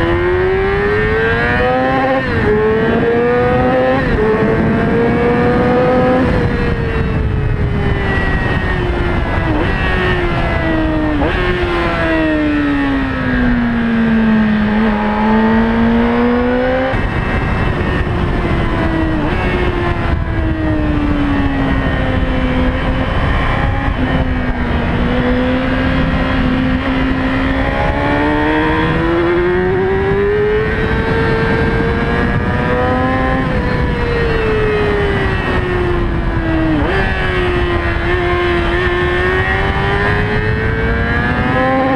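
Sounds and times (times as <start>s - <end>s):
motorcycle engine revving: 0.0s - 41.9s
wind and road rumble: 0.0s - 41.9s.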